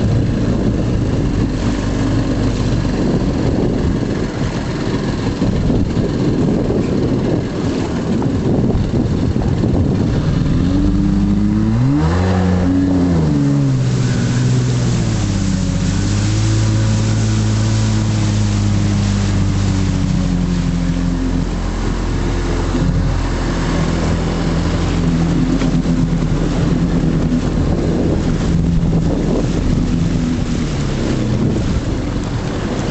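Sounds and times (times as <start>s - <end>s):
boat engine droning: 0.0s - 32.9s
water rushing: 0.0s - 32.9s
wind rushing: 0.0s - 32.9s.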